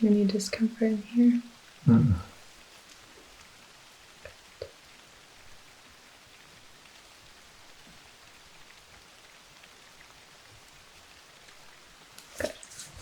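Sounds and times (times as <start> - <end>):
faint steady rain: 0.0 - 13.0.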